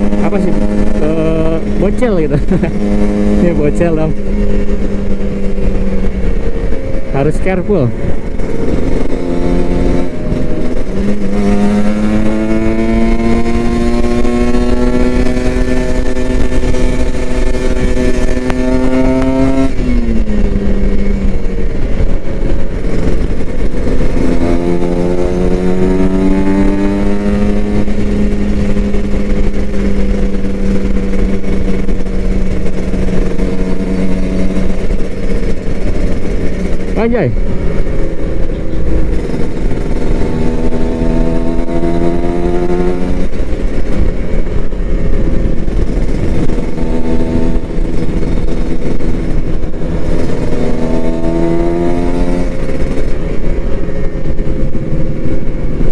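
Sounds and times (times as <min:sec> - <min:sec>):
low wind rumble: 0:00.0 - 0:55.9
motorcycle engine running: 0:00.0 - 0:55.9.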